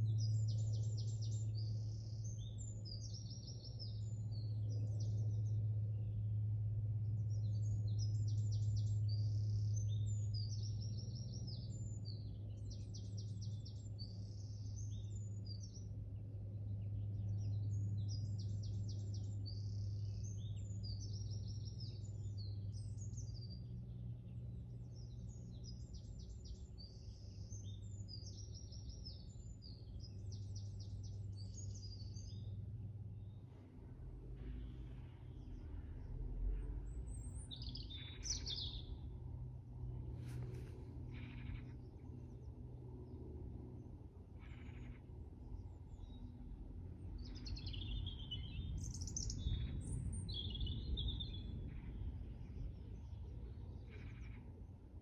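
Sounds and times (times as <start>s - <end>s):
songbirds singing: 0.0s - 55.0s
steady low rumble: 0.0s - 55.0s.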